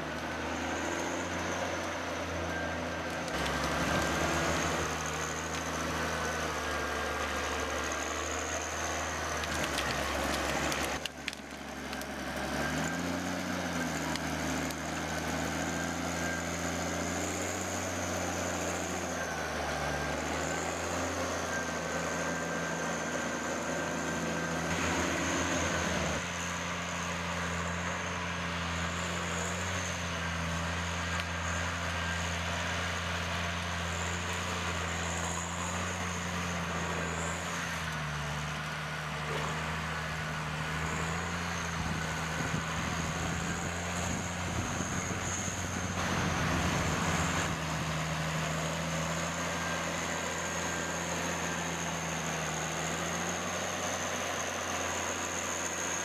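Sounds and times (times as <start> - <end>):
heavy machine engine running: 0.0 - 56.0.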